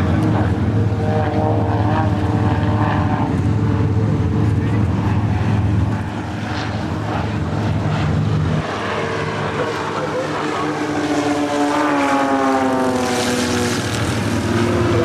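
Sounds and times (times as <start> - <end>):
propeller airplane flying past: 0.0 - 15.0.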